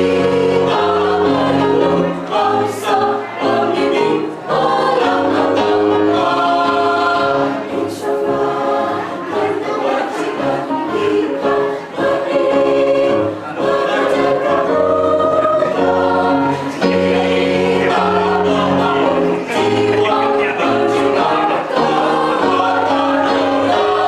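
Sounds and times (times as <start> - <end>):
mixed choir singing: 0.0 - 24.0.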